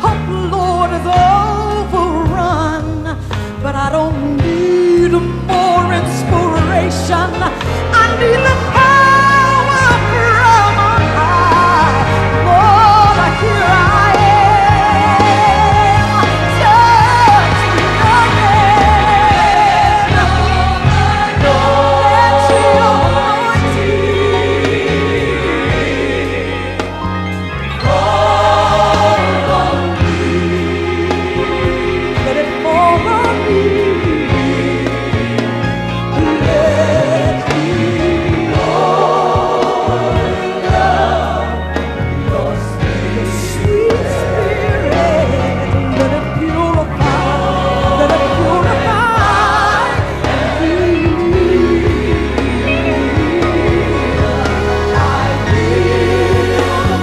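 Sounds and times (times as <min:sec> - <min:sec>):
gospel choir singing: 0:00.0 - 0:57.0
live band bass and keyboards: 0:00.0 - 0:57.0.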